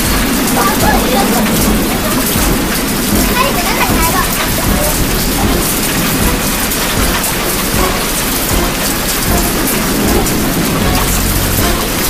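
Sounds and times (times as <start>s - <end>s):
heavy rain pouring: 0.0s - 12.0s
low rumble: 0.0s - 12.0s.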